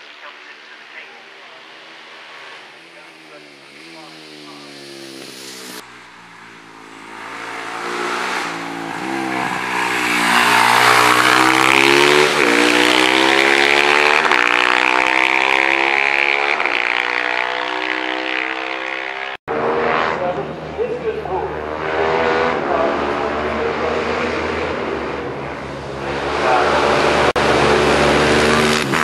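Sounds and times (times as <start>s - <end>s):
motorcycle accelerating with upshifts: 2.0s - 29.0s.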